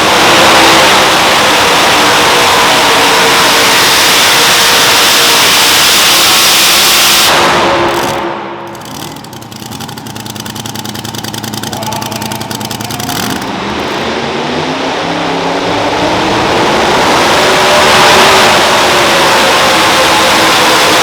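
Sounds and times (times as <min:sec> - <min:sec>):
pulling truck engine revving: 0:00.0 - 0:21.0.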